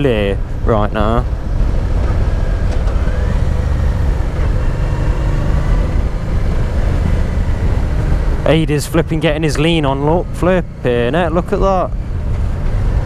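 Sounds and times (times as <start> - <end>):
motorcycle engine rumble: 0.0 - 13.0
road noise: 0.0 - 13.0.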